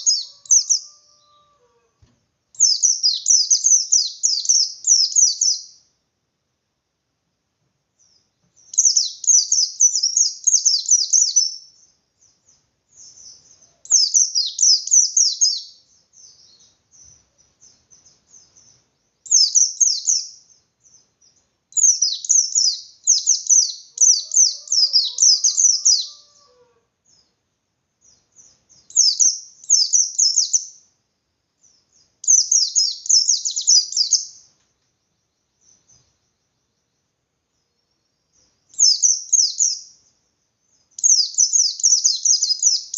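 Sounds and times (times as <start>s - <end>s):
white-eye bird twittering song: 0.0s - 1.4s, 2.6s - 5.9s, 8.0s - 27.4s, 28.0s - 30.9s, 31.6s - 42.9s.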